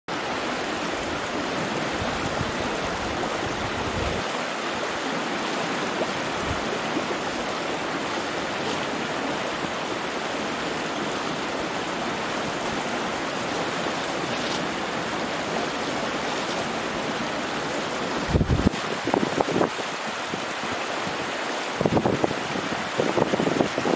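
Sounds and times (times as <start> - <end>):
river rushing over rocks: 0.1 - 23.9.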